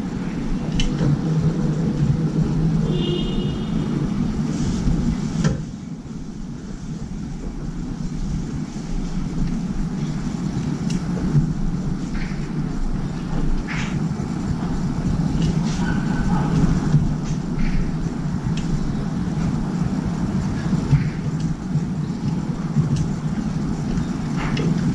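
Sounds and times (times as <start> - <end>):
city traffic rumble: 0.0 - 24.9.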